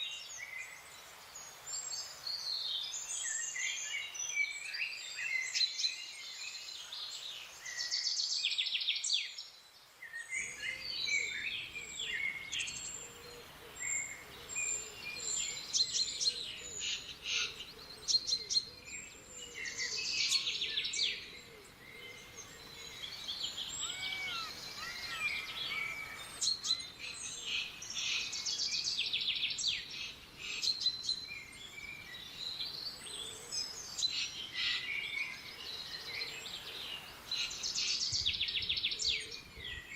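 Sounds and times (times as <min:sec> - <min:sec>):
low background noise: 0:00.0 - 0:39.9
songbirds chirping and trilling: 0:00.0 - 0:39.9.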